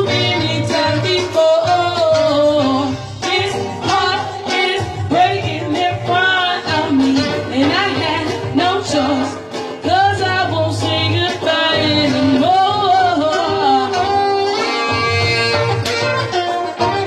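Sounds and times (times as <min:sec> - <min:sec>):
woman singing into a microphone: 0:00.0 - 0:16.1
live band accompaniment: 0:00.0 - 0:17.0.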